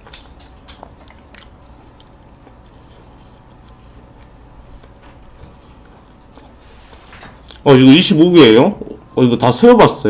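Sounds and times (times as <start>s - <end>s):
close chewing: 0.0s - 9.2s.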